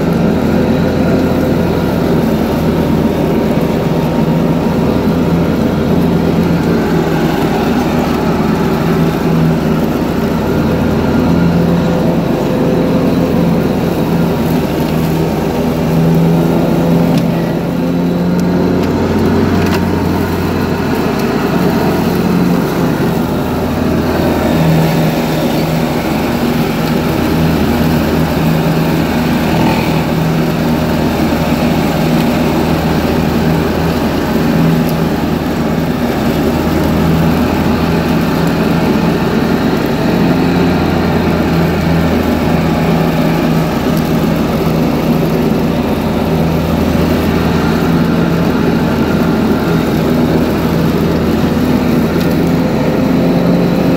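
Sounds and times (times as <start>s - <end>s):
garden tractor engine hum: 0.0s - 53.9s
mower deck cutting grass: 0.0s - 53.9s.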